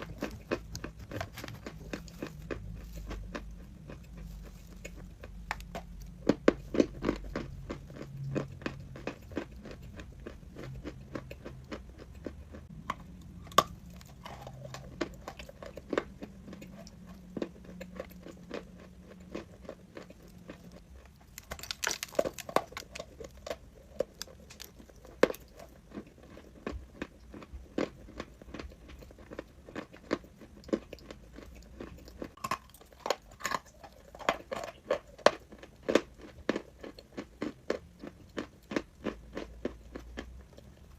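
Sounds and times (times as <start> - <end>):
person chewing crunchy chalk: 0.0 - 40.9.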